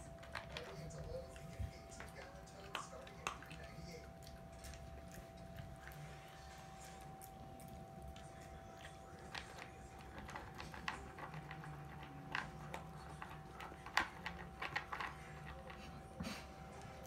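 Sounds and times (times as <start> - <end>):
dog crunching dry kibble: 0.0 - 17.0
faint hum: 0.0 - 17.0.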